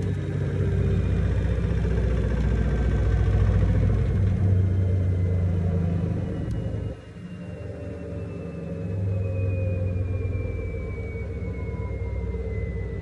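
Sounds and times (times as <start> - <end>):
washing machine humming and rumbling: 0.0 - 13.0.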